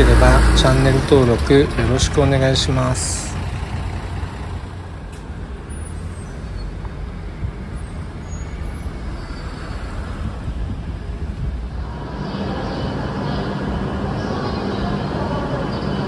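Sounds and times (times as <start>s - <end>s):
bus and car engines running: 0.0s - 16.0s
low road noise rumble: 0.0s - 16.0s.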